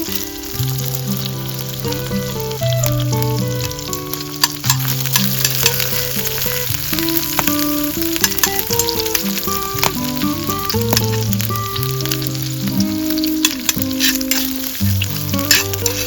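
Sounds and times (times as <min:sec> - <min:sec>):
background music melody: 0:00.0 - 0:16.0
food sizzling in a pan: 0:00.0 - 0:16.0.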